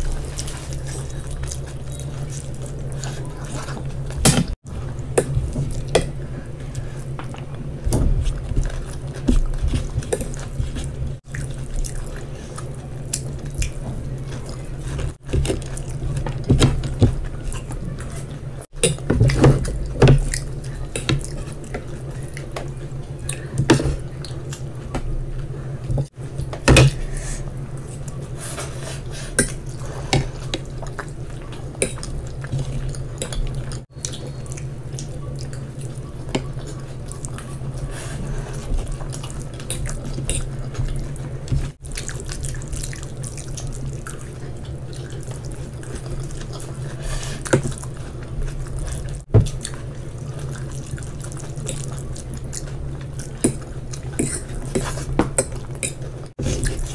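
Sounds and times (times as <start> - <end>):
wet chewing of noodles: 0.0 - 26.2, 27.0 - 56.9
steady low hum: 0.0 - 56.9.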